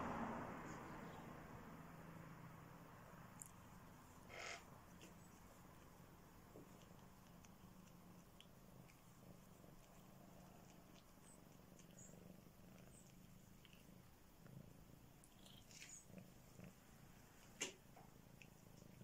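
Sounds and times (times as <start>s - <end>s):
cat purring: 0.0s - 19.0s
small ticks: 3.3s - 19.0s.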